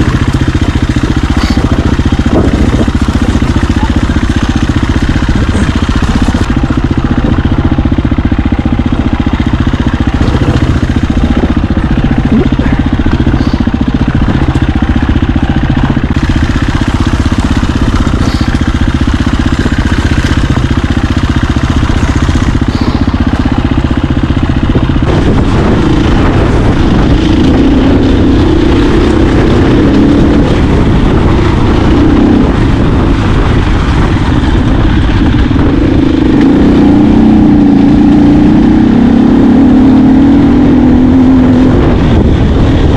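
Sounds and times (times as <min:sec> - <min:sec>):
dirt bike engine running: 0:00.0 - 0:42.9.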